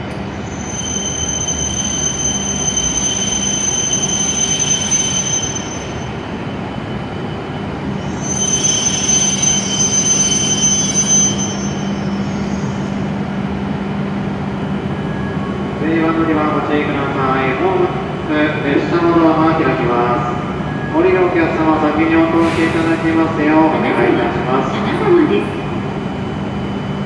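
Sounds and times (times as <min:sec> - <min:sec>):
train rumbling: 0:00.0 - 0:27.0
high brake squeal: 0:00.2 - 0:14.1, 0:14.9 - 0:27.0.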